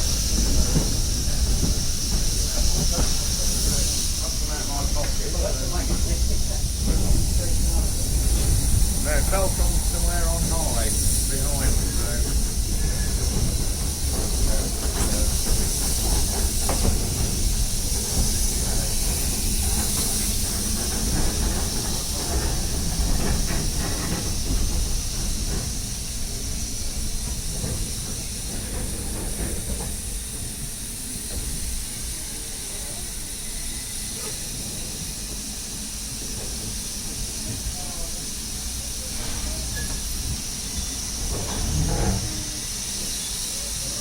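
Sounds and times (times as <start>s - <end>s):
steam locomotive hissing steam: 0.0s - 44.0s.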